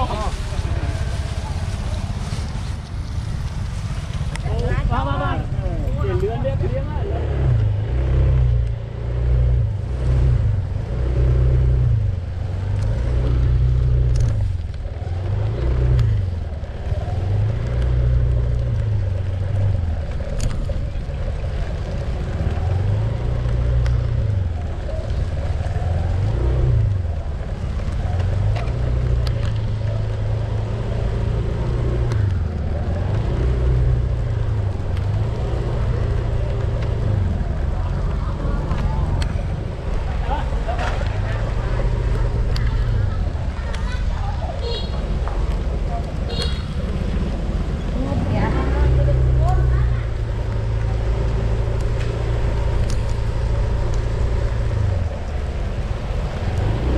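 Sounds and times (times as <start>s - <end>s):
vehicle driving drone: 0.0s - 56.9s.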